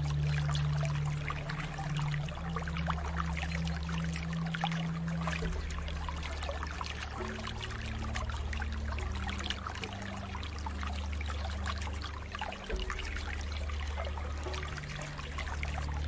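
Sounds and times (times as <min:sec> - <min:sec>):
steady low rumble: 0:00.0 - 0:16.0
water trickling and splashing: 0:00.0 - 0:16.0.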